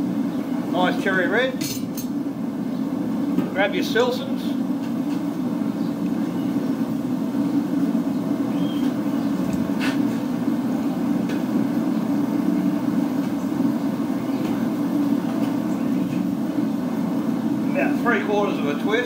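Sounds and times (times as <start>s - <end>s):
gas forge burner roaring: 0.0s - 19.0s.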